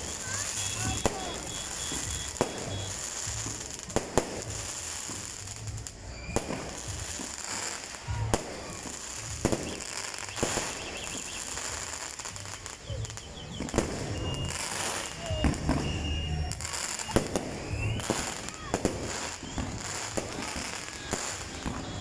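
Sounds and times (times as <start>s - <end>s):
background hiss: 0.0s - 22.0s
fireworks bangs: 0.0s - 22.0s.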